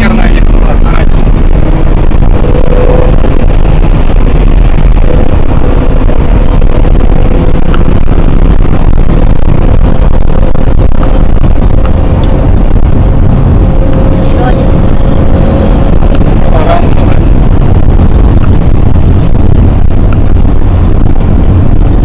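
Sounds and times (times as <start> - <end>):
car engine and road rumble: 0.0 - 22.0
faint rising whine: 0.0 - 22.0.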